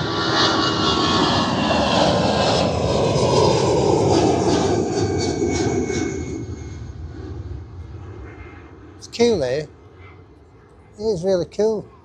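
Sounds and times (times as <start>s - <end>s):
jet airliner taking off: 0.0s - 12.0s.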